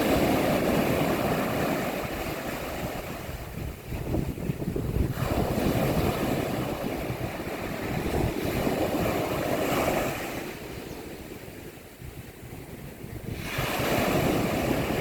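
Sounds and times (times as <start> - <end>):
sea waves breaking on beach: 0.0 - 15.0
wind buffeting microphone: 0.0 - 15.0.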